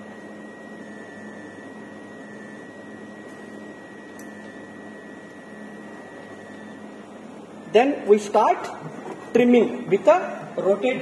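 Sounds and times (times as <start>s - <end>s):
refrigeration unit humming: 0.0s - 11.0s.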